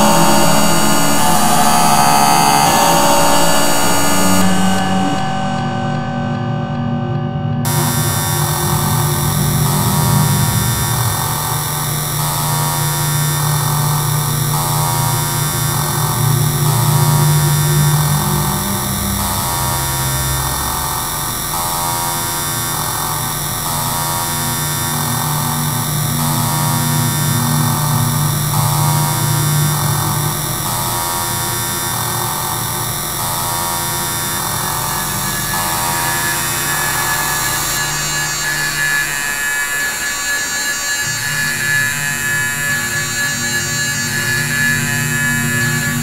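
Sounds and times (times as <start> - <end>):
harsh buzzing extratone kick drums: 7.7 - 46.0.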